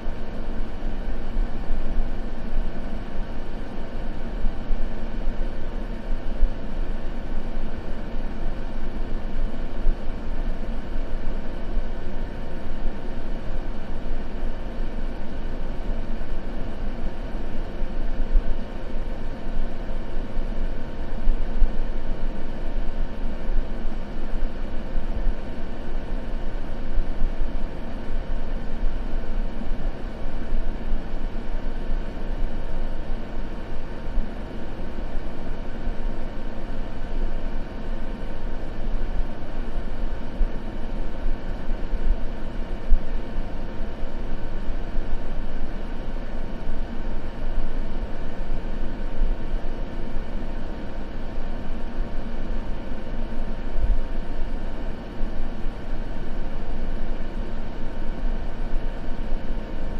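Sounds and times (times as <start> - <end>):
white noise: 0.0 - 59.9.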